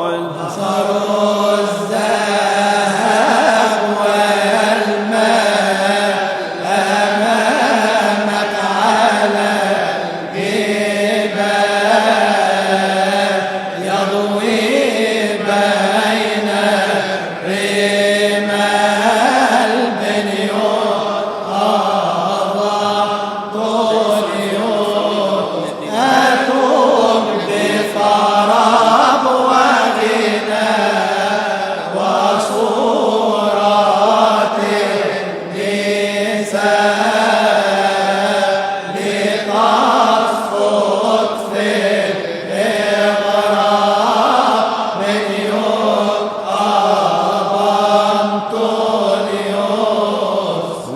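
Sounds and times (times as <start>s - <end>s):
man chanting a hymn: 0.0s - 50.9s.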